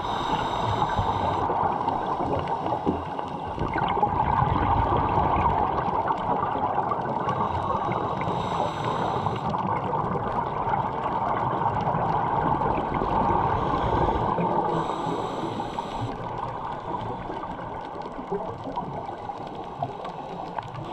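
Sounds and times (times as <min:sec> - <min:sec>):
bubbling from diver exhaling: 0:00.0 - 0:20.0
muffled underwater rushing: 0:00.0 - 0:20.9.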